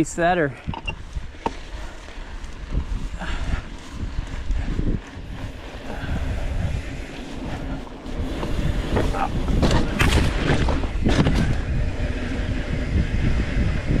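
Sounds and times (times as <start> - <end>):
wind buffeting microphone: 0.0 - 14.0
bike rattling and knocking: 0.7 - 14.0
tyres rumbling on dirt: 1.1 - 14.0.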